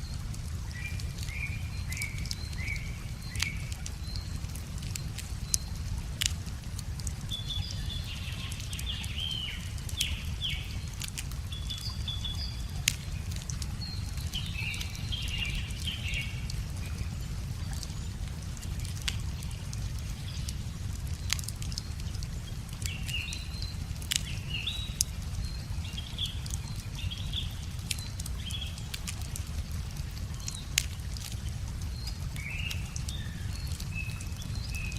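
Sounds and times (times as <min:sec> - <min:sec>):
songbird chirping: 0:00.0 - 0:34.9
wood fire crackling and popping: 0:00.0 - 0:34.9.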